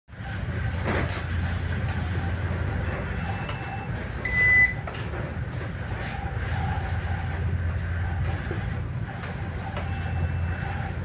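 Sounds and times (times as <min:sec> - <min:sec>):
ship engines humming: 0:00.1 - 0:11.0.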